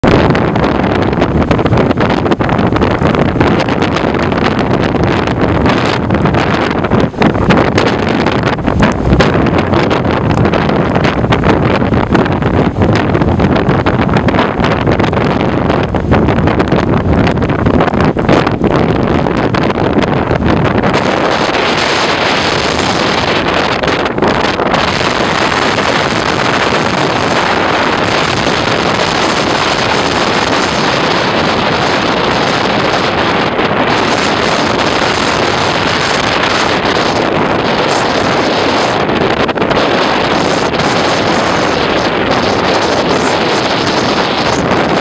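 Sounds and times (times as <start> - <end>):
surf: 0.0 - 45.0
wind blowing across microphone: 0.0 - 45.0.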